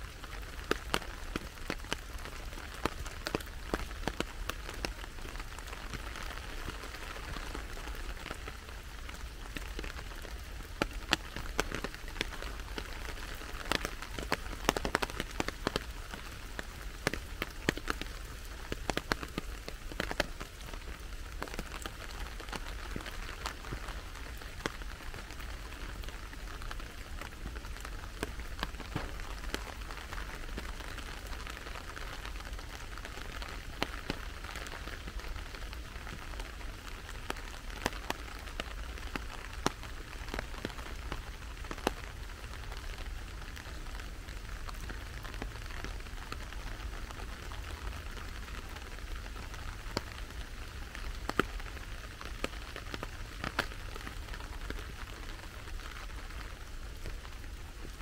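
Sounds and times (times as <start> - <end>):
raindrops ticking close by: 0.0 - 58.0
steady rain hiss: 0.0 - 58.0.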